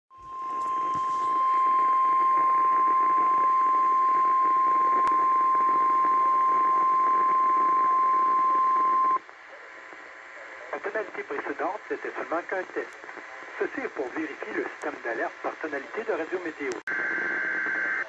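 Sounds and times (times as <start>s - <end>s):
radio static hiss: 0.2s - 18.0s.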